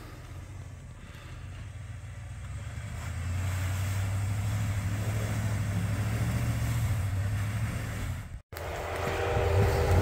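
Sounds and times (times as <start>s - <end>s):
truck engine running at low revs: 0.0s - 10.0s.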